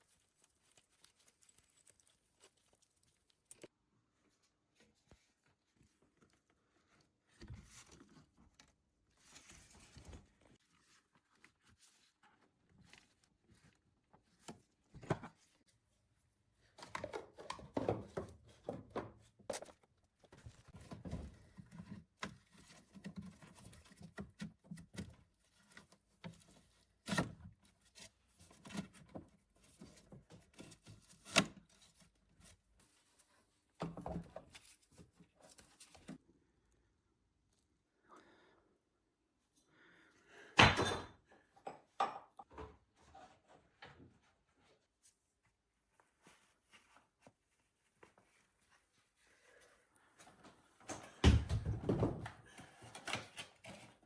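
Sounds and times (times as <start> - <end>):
rustling of things handled: 0.0 - 36.7, 42.5 - 54.0.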